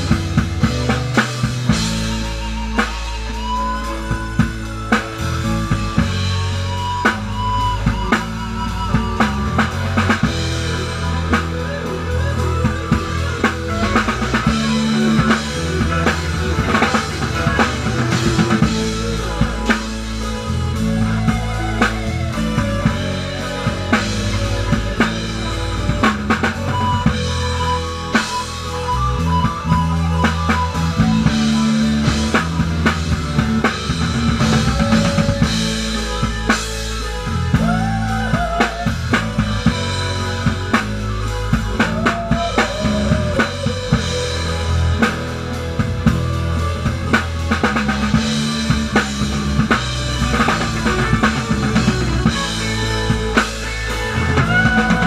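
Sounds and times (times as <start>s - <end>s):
drum kit beat: 0.0s - 55.0s
lead instrument bending notes: 0.0s - 55.0s
live rock band playing: 0.0s - 55.0s.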